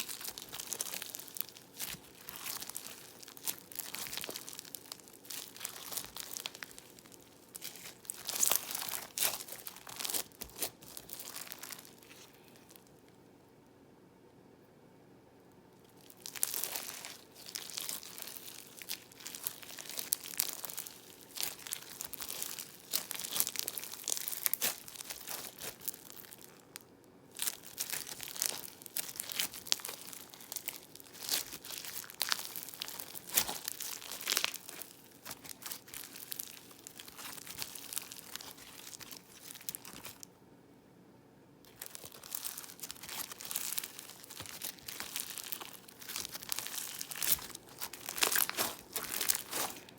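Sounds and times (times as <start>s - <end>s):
crunchy slime squeezed by hand: 0.0s - 12.9s, 15.9s - 40.3s, 41.7s - 49.9s.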